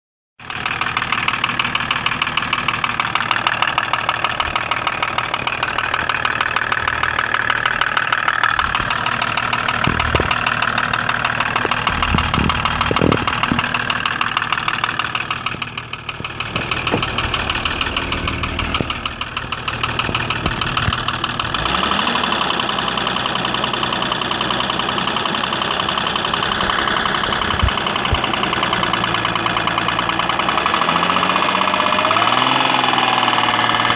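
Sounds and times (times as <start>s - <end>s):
diesel engine knocking: 0.4s - 33.9s.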